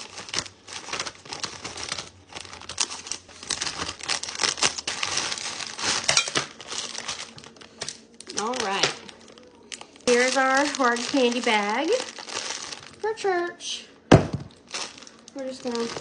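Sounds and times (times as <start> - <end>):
candy wrappers crinkling: 0.0 - 16.0.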